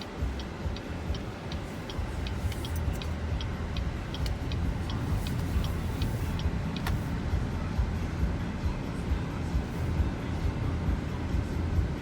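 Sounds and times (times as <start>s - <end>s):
car driving rumble: 0.0s - 12.0s
car turn signal ticking: 0.0s - 12.0s.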